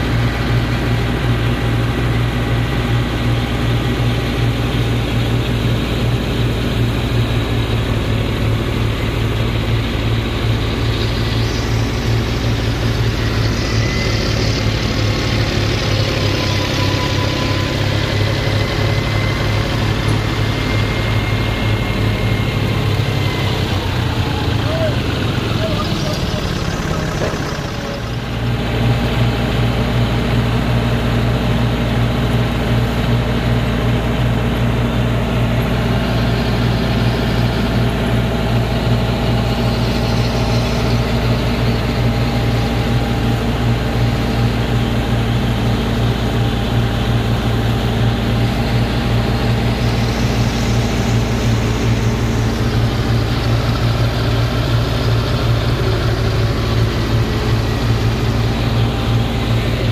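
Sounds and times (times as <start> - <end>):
tractor engine and thresher humming: 0.0 - 59.9.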